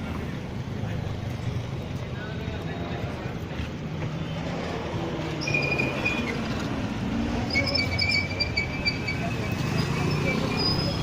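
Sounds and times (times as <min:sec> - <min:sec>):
traffic engines running: 0:00.0 - 0:11.0.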